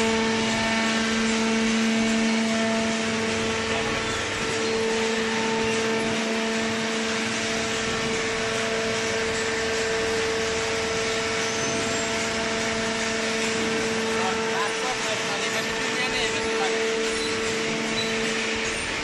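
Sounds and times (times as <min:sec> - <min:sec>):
hydraulic pump motor humming: 0:00.0 - 0:19.0.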